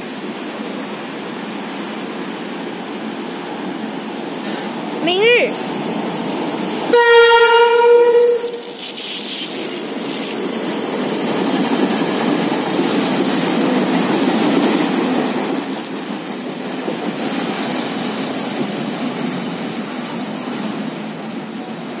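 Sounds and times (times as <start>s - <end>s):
train wheels on rails rushing past: 0.0s - 22.0s.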